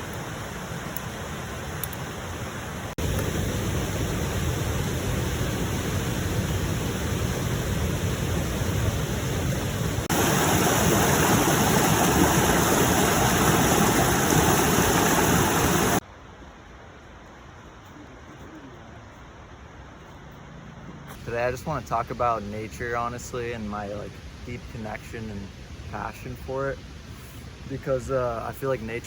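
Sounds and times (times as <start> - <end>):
running water rushing: 0.0 - 16.0, 21.1 - 29.0.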